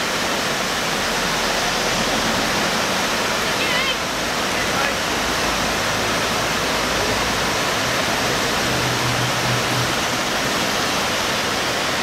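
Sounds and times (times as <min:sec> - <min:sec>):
river rapids rushing over rocks: 0:00.0 - 0:12.0.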